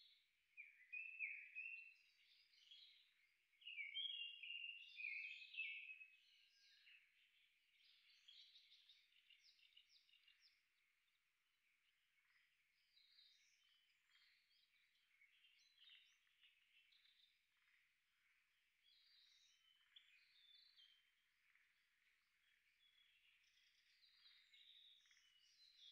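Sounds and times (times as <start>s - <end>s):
birds chirping and trilling: 0.0s - 25.9s.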